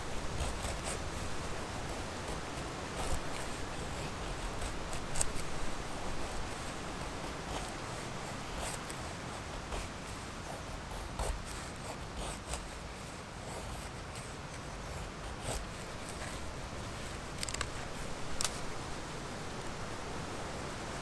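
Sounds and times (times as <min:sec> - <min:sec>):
knife scraping wood: 0:00.0 - 0:18.8.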